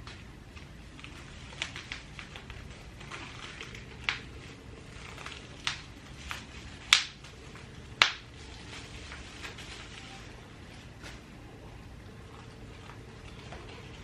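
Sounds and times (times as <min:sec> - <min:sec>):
handling clicks and crackles: 0:00.0 - 0:11.3
low room hum: 0:00.0 - 0:14.0.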